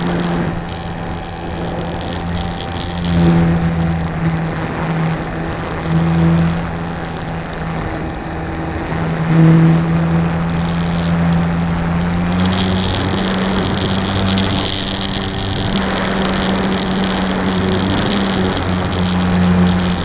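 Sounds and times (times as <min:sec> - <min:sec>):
electric motor and propeller hum: 0:00.0 - 0:20.0
wind noise: 0:00.0 - 0:20.0.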